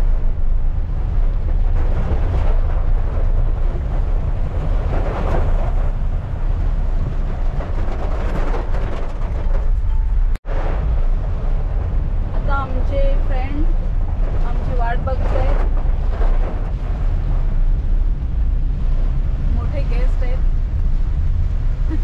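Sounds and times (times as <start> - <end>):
rain and wet tyres hissing: 0.0 - 9.2, 10.4 - 22.0
road and engine rumble: 0.0 - 22.0.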